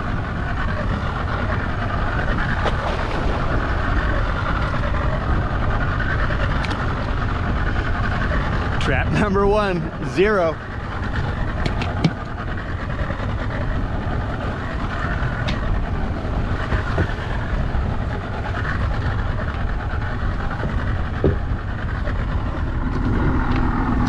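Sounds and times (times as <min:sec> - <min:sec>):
outboard motor running: 0:00.0 - 0:24.0
water: 0:00.0 - 0:24.0
wind buffeting microphone: 0:00.0 - 0:24.0.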